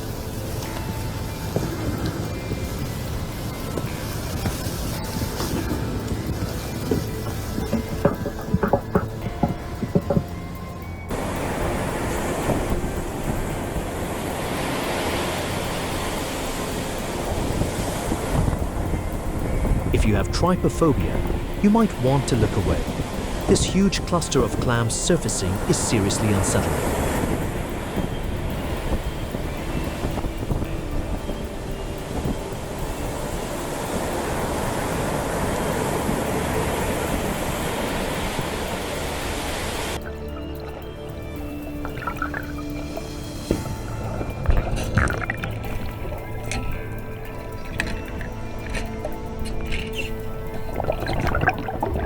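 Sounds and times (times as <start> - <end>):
surf rushing: 0.0 - 52.0
water washing in waves: 0.0 - 52.0
wind: 0.0 - 52.0.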